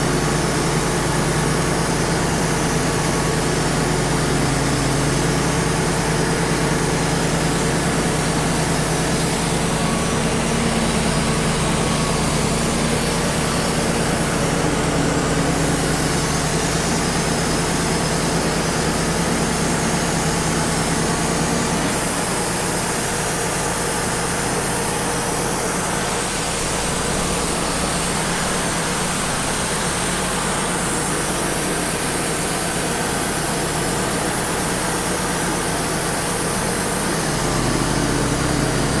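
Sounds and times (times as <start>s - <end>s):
sawmill running: 0.0s - 39.0s.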